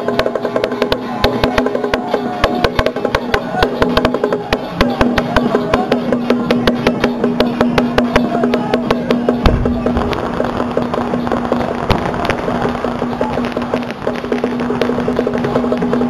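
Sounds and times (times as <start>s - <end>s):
rapid percussion strikes: 0.0s - 16.0s.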